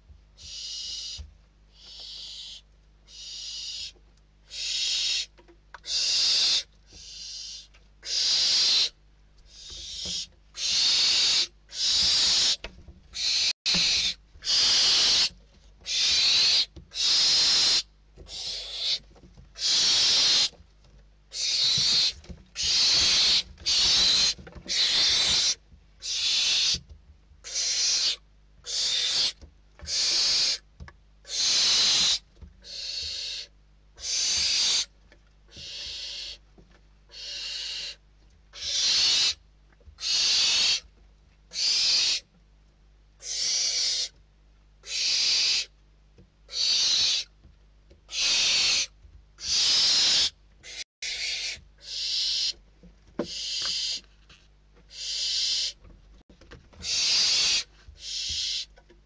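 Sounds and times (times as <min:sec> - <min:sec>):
owl chicks hissing calls: 0:00.4 - 0:20.6, 0:21.3 - 0:36.5, 0:37.1 - 0:39.4, 0:40.0 - 0:40.9, 0:41.5 - 0:42.3, 0:43.2 - 0:44.2, 0:44.8 - 0:45.8, 0:46.5 - 0:47.3, 0:48.1 - 0:52.6, 0:53.2 - 0:54.1, 0:54.8 - 0:55.9, 0:56.8 - 0:58.8.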